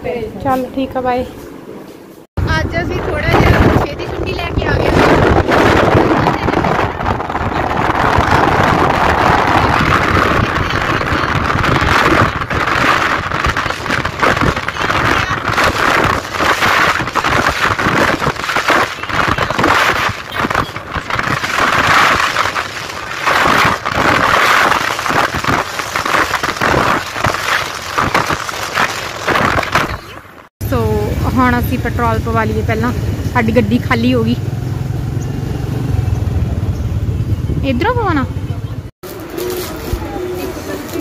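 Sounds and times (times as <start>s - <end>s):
wind buffeting a microphone: 2.4s - 41.0s.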